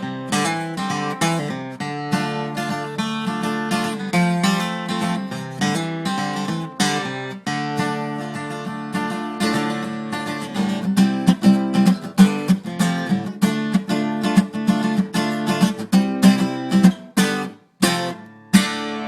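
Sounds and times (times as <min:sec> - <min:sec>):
acoustic guitar strumming: 0:00.0 - 0:19.0
picked guitar notes: 0:00.0 - 0:19.0.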